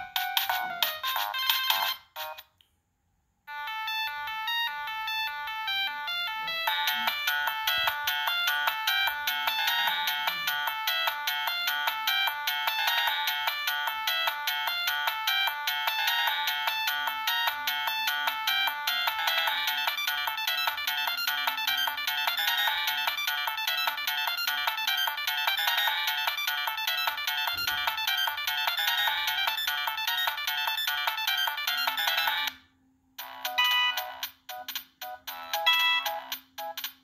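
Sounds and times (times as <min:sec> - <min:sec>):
midi ringtone from phone speaker: 0:00.0 - 0:02.4, 0:03.5 - 0:32.5, 0:33.4 - 0:34.3, 0:35.3 - 0:36.3
trance-style ringtone: 0:00.0 - 0:02.5, 0:03.5 - 0:32.6, 0:33.2 - 0:37.0.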